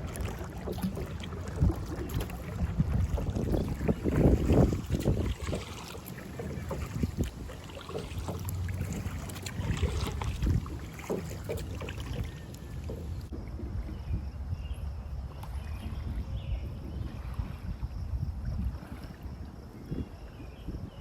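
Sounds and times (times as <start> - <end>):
water splashing around kayak: 0.0 - 21.0
wind rumbling on microphone: 0.0 - 21.0.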